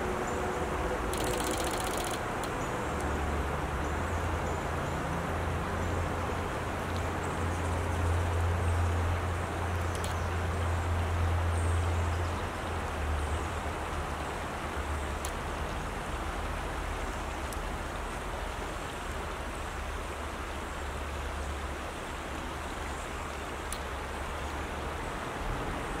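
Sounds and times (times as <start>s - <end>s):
creek water over gravel: 0.0s - 26.0s.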